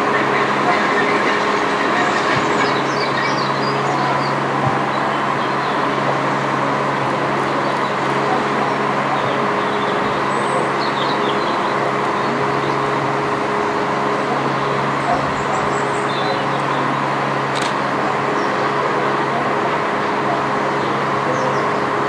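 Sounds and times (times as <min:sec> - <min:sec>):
low engine hum: 0:00.0 - 0:22.0
traffic noise: 0:00.0 - 0:22.0.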